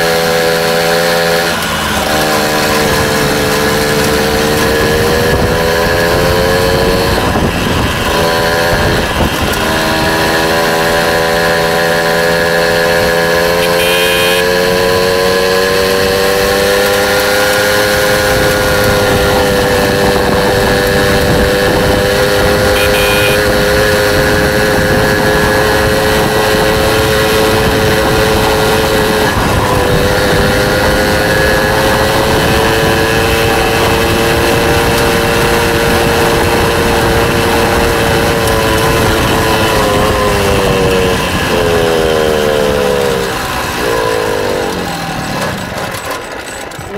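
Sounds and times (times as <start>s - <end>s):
motorbike engine running: 0.0s - 46.9s.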